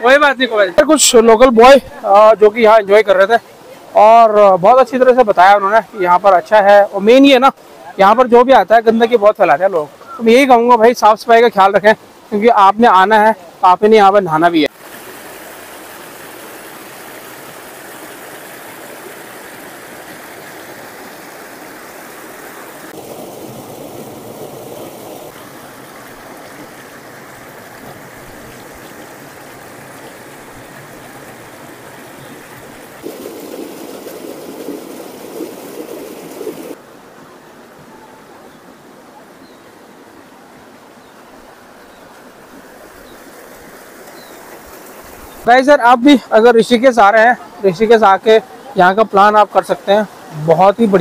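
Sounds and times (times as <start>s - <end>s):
water rushing over rocks: 0.0s - 51.0s.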